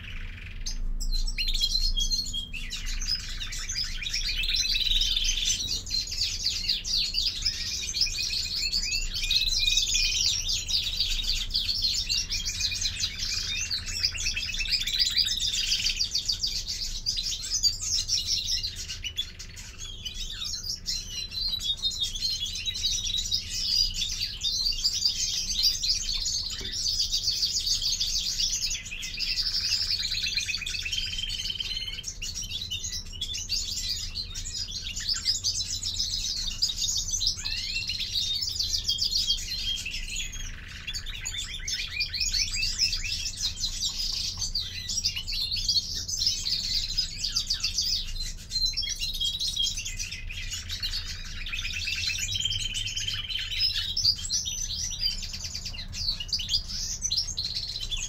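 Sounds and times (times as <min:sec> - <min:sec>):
finch twittering and trilling: 0:00.0 - 0:58.0.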